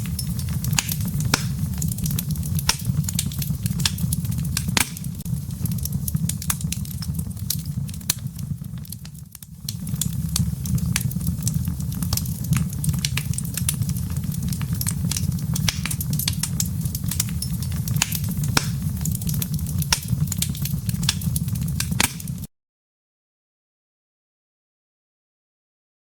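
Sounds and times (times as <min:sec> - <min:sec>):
wood fire crackling and popping: 0:00.0 - 0:22.5.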